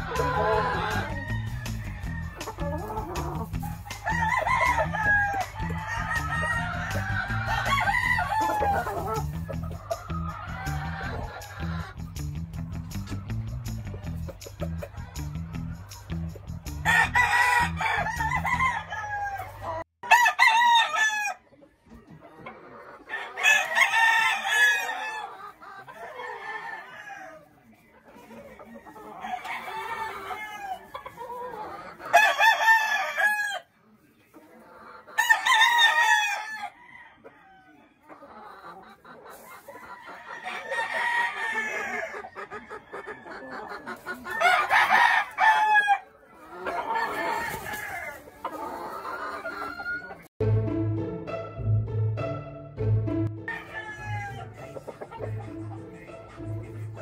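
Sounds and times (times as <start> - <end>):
roosters crowing: 0.0 - 13.7, 14.6 - 21.5, 22.6 - 27.6, 28.3 - 33.7, 34.7 - 50.3, 53.5 - 55.4
chicken clucking: 0.0 - 50.3, 53.5 - 57.0.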